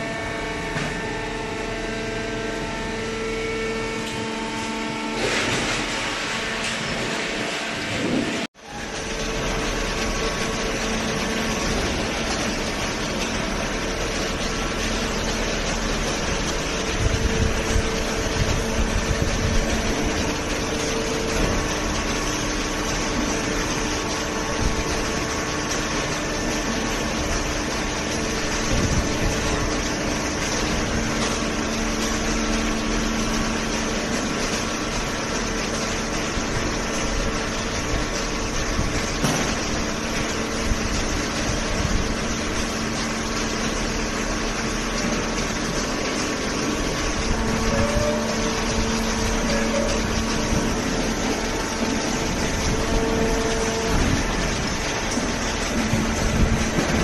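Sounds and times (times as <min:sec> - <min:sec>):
baler mechanical hum: 0:00.0 - 0:57.0.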